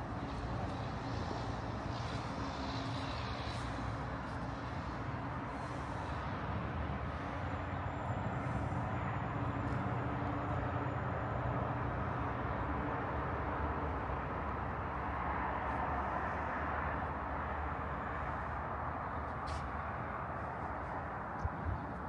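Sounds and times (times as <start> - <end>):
street traffic rumble: 0.0 - 22.0
vehicle engine humming: 0.0 - 22.0.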